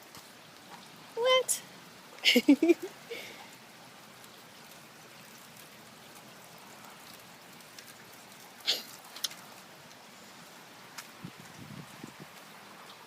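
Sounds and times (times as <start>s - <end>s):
raindrops tapping close by: 0.0s - 13.0s
steady rain falling: 0.0s - 13.0s.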